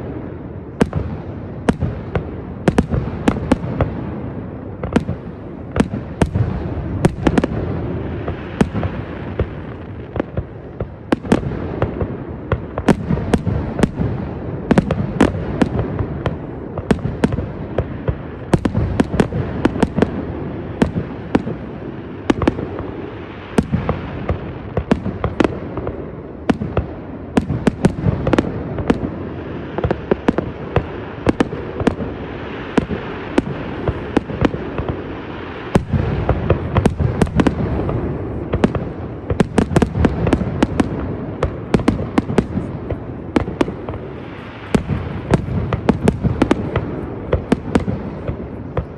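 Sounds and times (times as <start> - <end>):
rumble of fireworks launches: 0.0 - 48.9.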